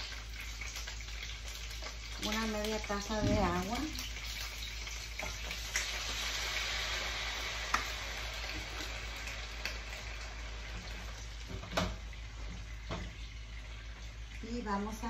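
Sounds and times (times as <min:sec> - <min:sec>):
chiles sizzling in hot oil: 0:00.0 - 0:15.0.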